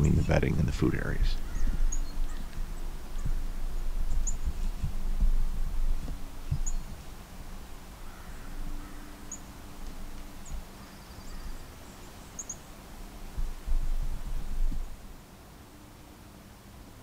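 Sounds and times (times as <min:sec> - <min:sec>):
songbirds chirping: 0:00.0 - 0:16.1
low outdoor rumble: 0:00.0 - 0:16.5.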